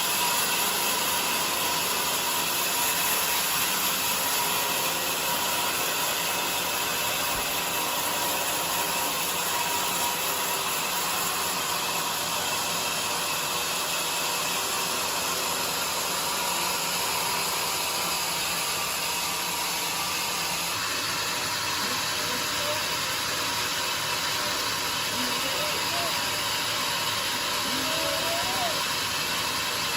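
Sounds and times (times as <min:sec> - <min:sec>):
bandsaw blade cutting log: 0:00.0 - 0:29.9
machine running: 0:00.0 - 0:29.9.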